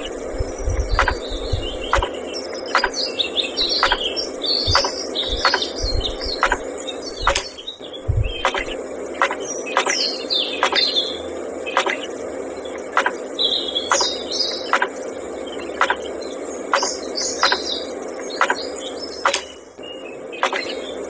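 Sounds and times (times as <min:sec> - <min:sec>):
birds chirping: 0:00.0 - 0:21.0
motor hum: 0:00.0 - 0:21.0.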